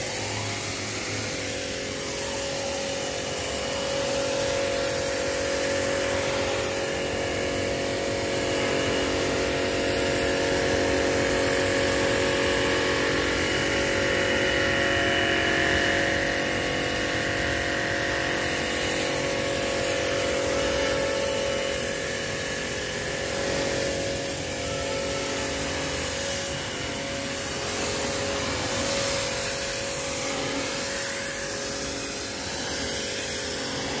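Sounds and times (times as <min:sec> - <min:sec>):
pressure washer motor hum: 0:00.0 - 0:34.0
water jet spraying on concrete: 0:00.0 - 0:34.0.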